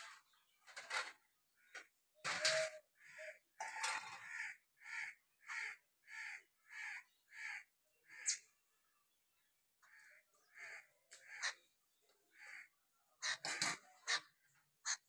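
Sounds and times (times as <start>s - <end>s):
bird harsh calls: 0.0s - 9.0s, 9.8s - 15.0s.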